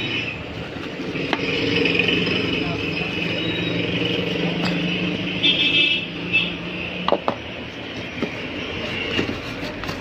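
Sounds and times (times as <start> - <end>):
engine-like background hum: 0.0 - 10.0.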